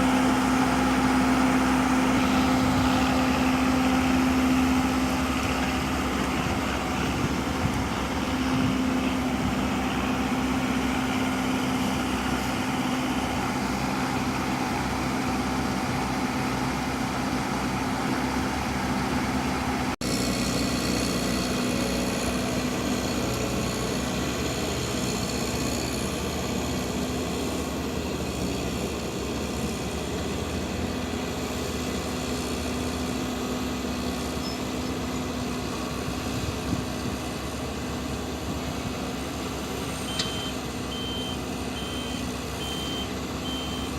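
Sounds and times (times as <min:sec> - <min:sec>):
vehicle engine humming: 0:00.0 - 0:43.9.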